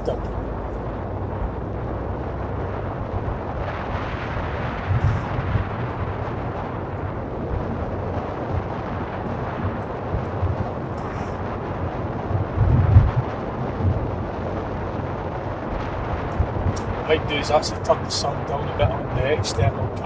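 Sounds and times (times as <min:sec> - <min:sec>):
car road and wind rumble: 0:00.0 - 0:20.0
heavy low thumps: 0:00.0 - 0:20.0.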